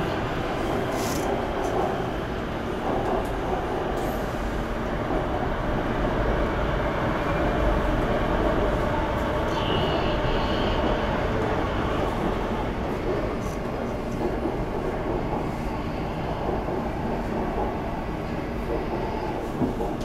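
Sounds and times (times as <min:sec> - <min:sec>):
metro train running rumble: 0:00.0 - 0:20.0.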